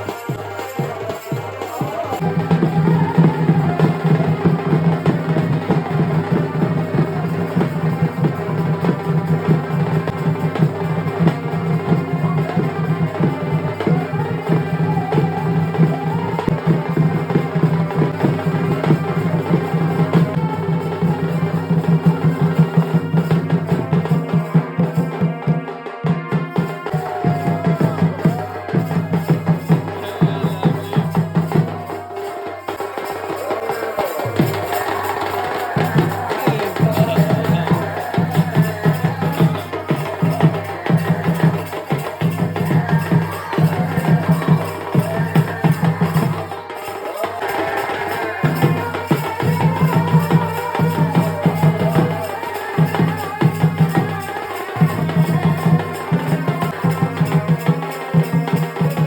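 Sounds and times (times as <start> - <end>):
fast drumming and percussion: 0.0 - 59.0.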